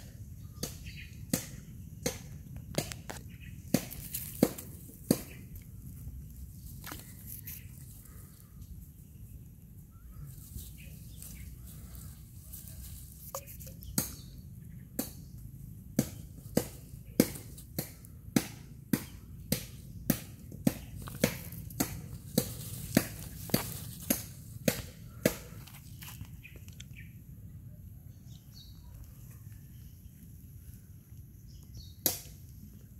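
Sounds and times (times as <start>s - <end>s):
faint low outdoor rumble: 0.0s - 32.9s.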